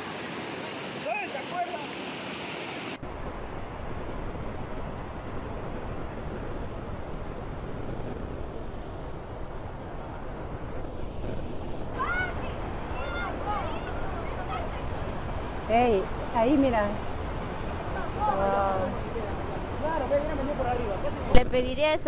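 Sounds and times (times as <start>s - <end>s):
floodwater rushing: 0.0s - 22.0s
wind rumbling on microphone: 2.8s - 22.0s.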